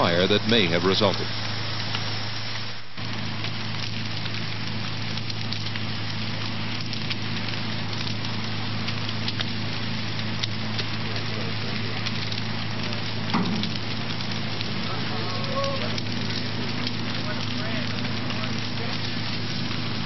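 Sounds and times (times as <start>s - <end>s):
fire hissing and crackling: 0.0s - 20.0s
steady low hum: 0.0s - 20.0s.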